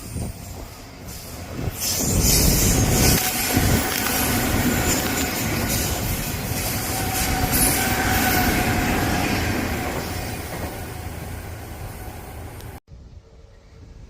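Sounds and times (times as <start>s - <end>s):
electric train passing: 0.0s - 12.8s.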